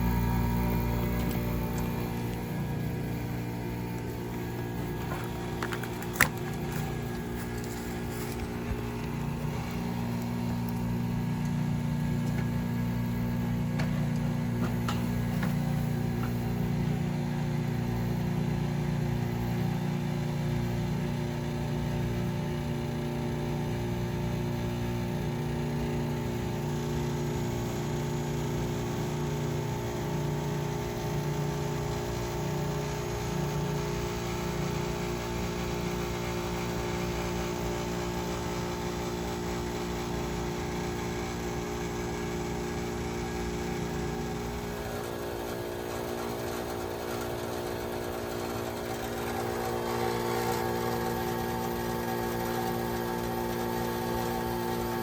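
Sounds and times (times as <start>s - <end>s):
heat pump humming: 0.0s - 55.0s.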